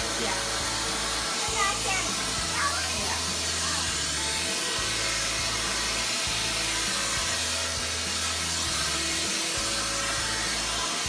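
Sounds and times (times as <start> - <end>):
background music: 0.0 - 11.0
vacuum cleaner running: 0.0 - 11.0.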